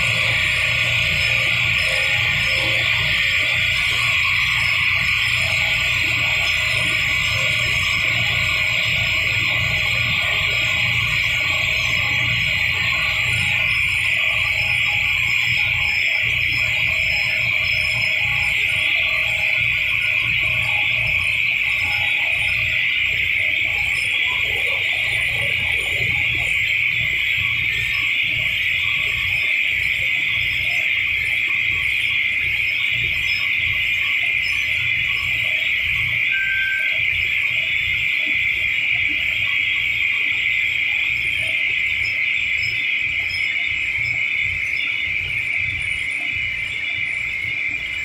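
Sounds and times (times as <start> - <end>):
machinery high-pitched hiss: 0.0 - 45.0
low regular pulsing: 0.0 - 48.0.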